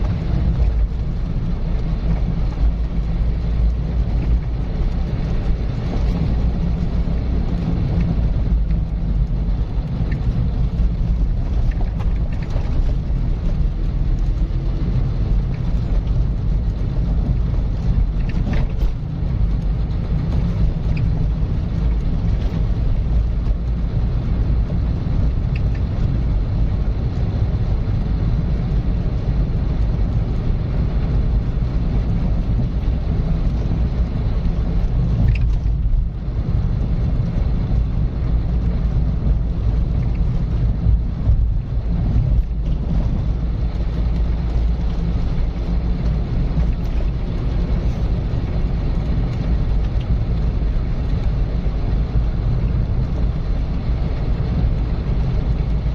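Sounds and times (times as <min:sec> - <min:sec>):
car engine and tyre noise: 0:00.0 - 0:55.9.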